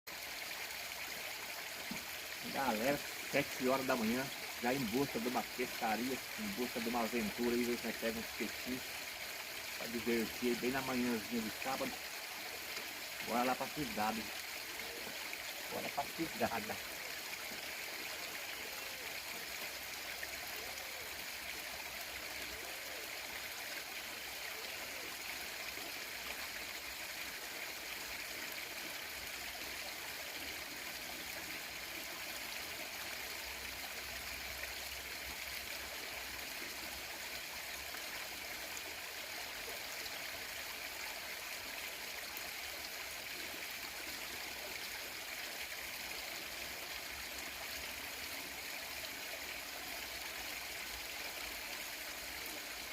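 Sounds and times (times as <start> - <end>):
stream flowing over rocks: 0.1 - 52.9.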